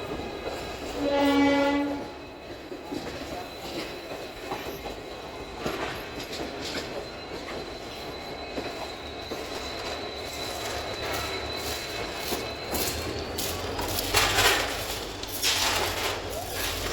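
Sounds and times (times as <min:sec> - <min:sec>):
rail clicks: 0:00.0 - 0:16.9
train rumble: 0:00.0 - 0:16.9
train wheels squealing: 0:00.0 - 0:16.9.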